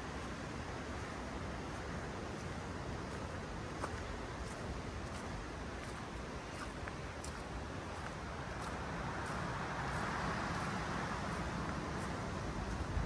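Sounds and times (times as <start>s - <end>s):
distant road traffic: 0.0s - 13.0s
footsteps on wet earth: 0.0s - 13.0s.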